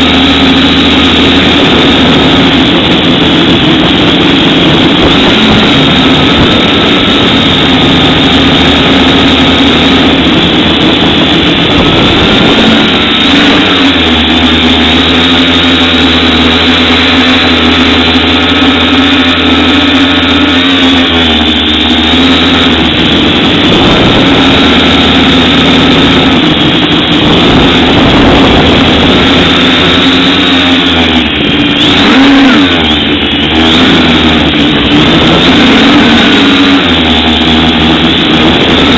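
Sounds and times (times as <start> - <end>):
drone motors and propellers whining: 0.0 - 38.9.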